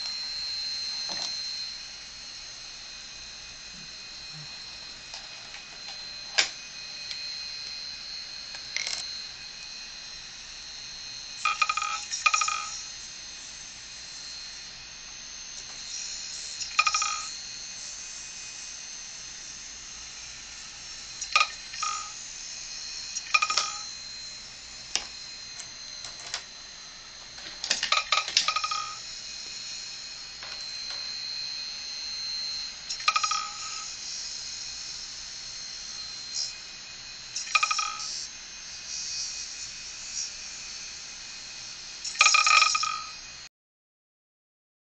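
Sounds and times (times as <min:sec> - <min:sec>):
ringing squeals of pen on platter: 0:00.0 - 0:02.4, 0:03.7 - 0:43.4
hard drive spinning whine: 0:00.0 - 0:43.5.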